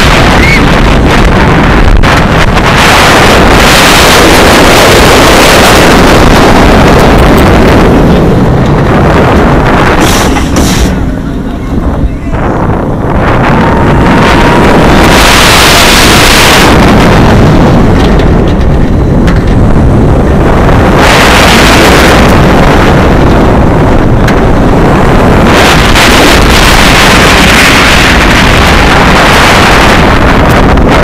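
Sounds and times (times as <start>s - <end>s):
coaster train rumbling on track: 0.0s - 31.0s
wind buffeting microphone: 0.0s - 31.0s.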